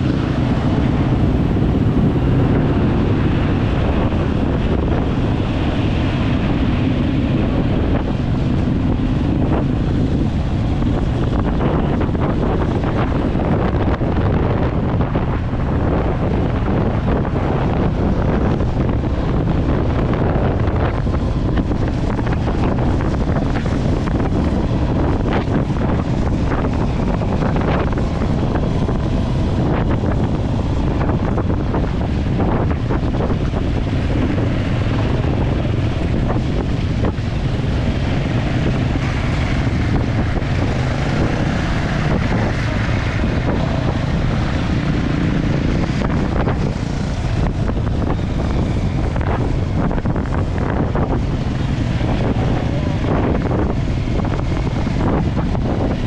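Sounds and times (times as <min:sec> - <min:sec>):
vehicle engine running: 0:00.0 - 0:56.0
wind rumble on microphone: 0:00.0 - 0:56.0.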